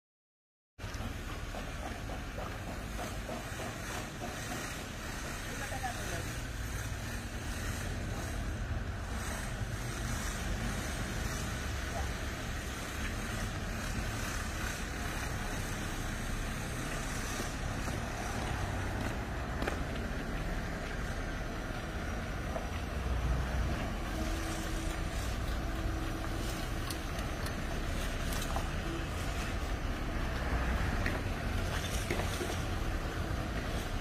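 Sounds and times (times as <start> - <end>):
bus engine rumbling: 0.8 - 34.0.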